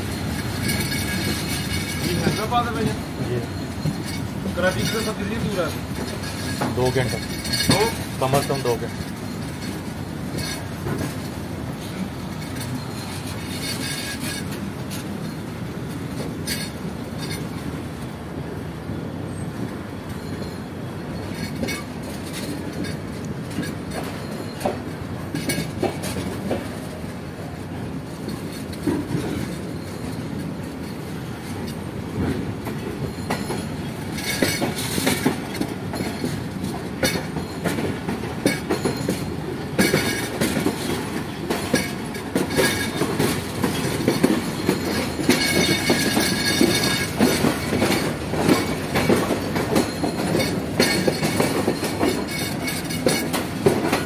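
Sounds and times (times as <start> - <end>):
wheels clacking over rail joints: 0.0 - 18.7, 19.5 - 54.0
train rumbling on rails: 0.0 - 54.0.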